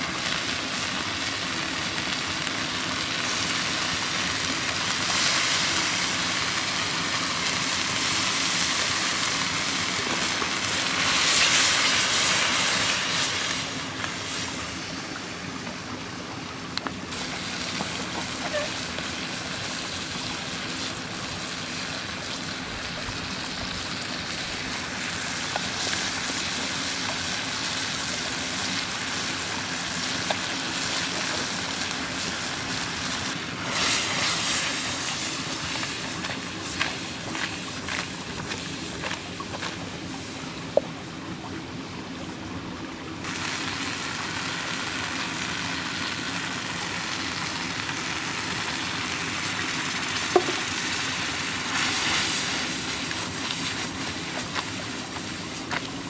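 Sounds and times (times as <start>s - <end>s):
sauce sizzling and bubbling in pan: 0.0s - 41.1s, 43.2s - 56.0s.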